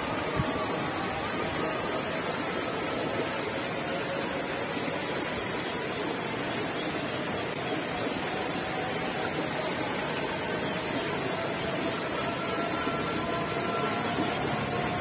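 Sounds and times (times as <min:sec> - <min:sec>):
faint steady whine: 0:00.0 - 0:15.0
stream water running over stones: 0:00.0 - 0:15.0.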